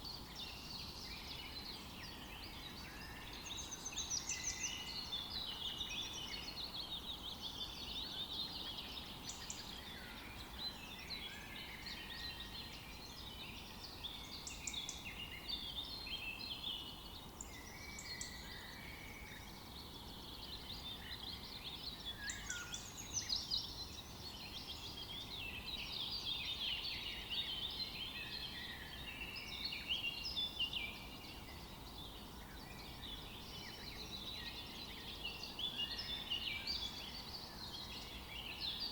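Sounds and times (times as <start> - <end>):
faint background hiss: 0.0 - 38.9
songbirds chirping and singing: 0.0 - 38.9.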